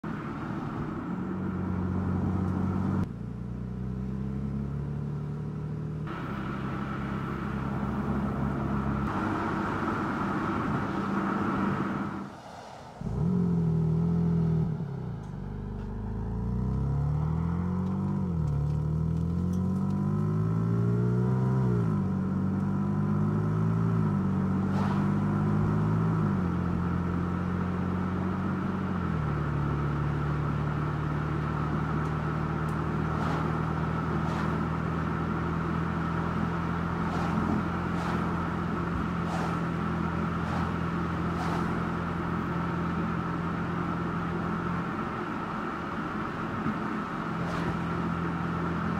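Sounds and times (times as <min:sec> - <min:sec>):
car engine accelerating: 0:00.0 - 0:48.9
road noise: 0:00.0 - 0:48.9.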